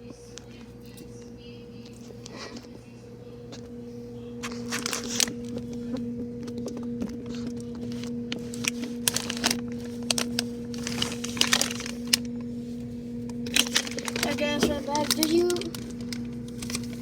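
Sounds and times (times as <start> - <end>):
refrigerator electrical hum: 0.0 - 17.0.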